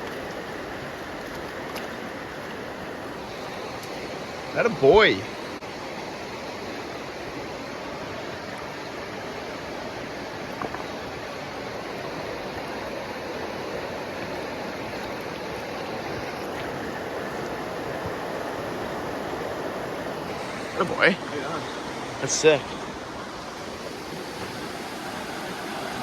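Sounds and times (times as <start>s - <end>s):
flowing stream water: 0.0s - 26.0s.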